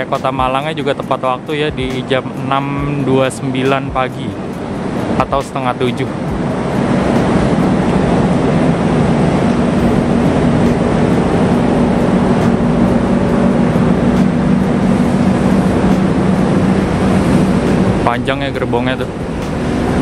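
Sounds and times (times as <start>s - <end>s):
standing train machinery hum: 0.0s - 20.0s.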